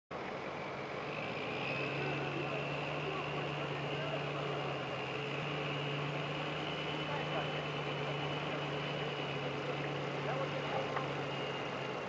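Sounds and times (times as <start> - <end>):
diesel engine droning: 0.1 - 12.0.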